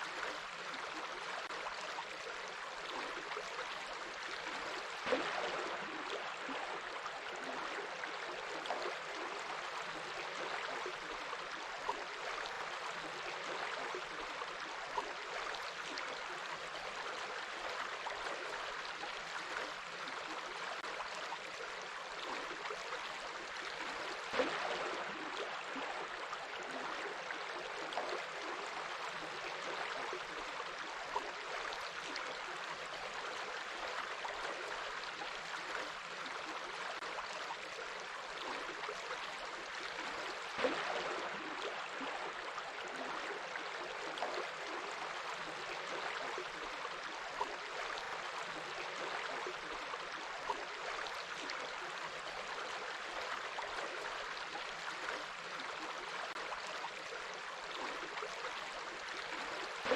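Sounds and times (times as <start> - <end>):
stream gurgling and splashing: 0.0 - 15.4, 16.8 - 59.9.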